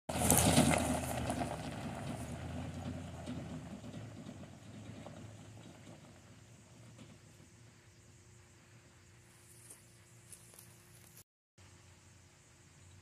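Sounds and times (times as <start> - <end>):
truck engine rumbling: 0.1 - 11.0.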